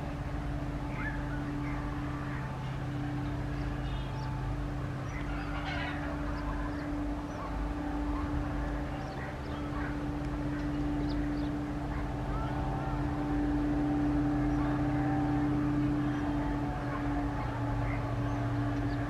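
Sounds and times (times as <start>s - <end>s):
birds chirping: 0.0s - 19.0s
low engine drone: 0.0s - 19.0s.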